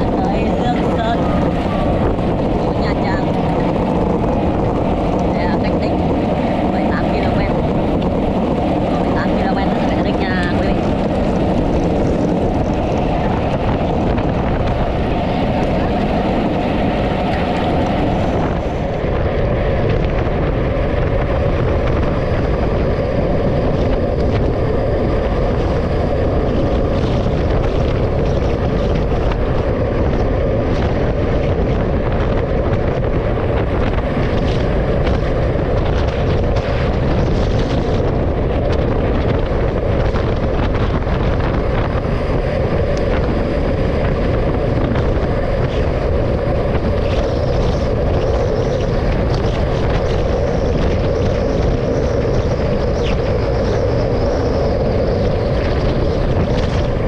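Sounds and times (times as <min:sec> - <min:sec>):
road vehicle running: 0:00.0 - 0:57.0
wind on microphone: 0:00.0 - 0:57.0.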